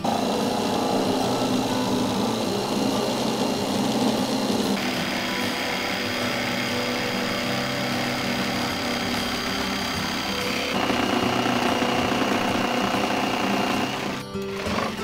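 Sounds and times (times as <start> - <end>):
electric jigsaw cutting wood: 0.0 - 15.0.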